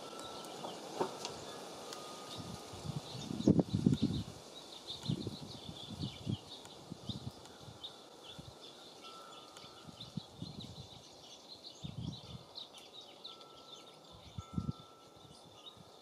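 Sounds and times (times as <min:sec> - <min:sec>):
wind buffeting microphone: 0:00.0 - 0:08.7, 0:09.4 - 0:11.1, 0:11.7 - 0:12.6, 0:14.0 - 0:16.0
songbirds chirping: 0:00.0 - 0:16.0.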